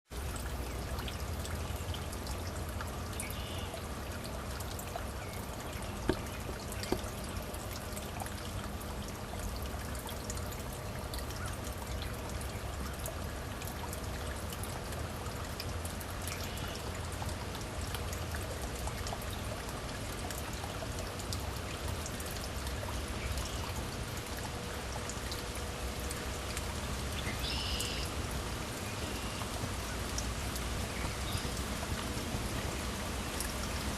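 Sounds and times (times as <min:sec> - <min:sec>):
small stream trickling: 0:00.0 - 0:33.9.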